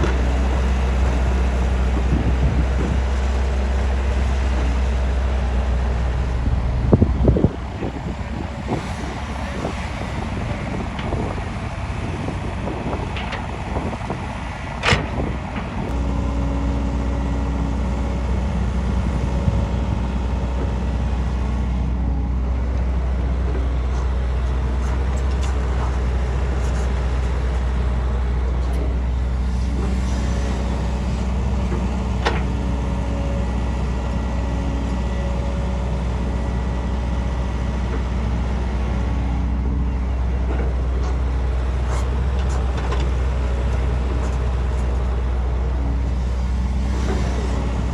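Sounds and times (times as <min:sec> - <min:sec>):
engine droning: 0:00.0 - 0:47.9.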